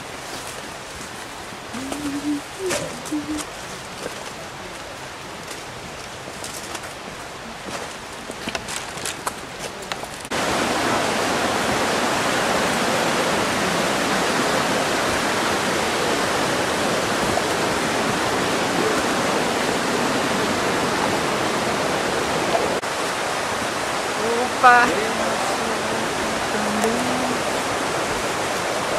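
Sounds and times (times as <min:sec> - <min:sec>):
loud steady water rushing: 0:00.0 - 0:28.9.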